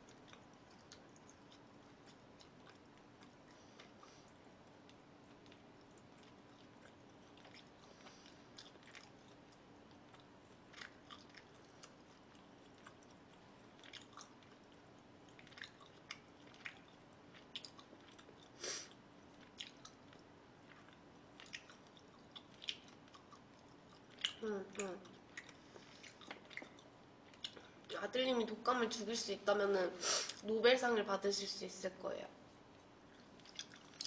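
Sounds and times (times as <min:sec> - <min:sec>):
chewing food: 0:00.0 - 0:27.9, 0:32.5 - 0:34.0
faint steady hum: 0:00.0 - 0:34.0.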